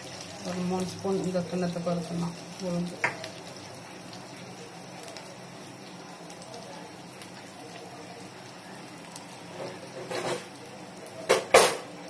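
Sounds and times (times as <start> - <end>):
oil crackling in a frying pan: 0.0 - 12.0.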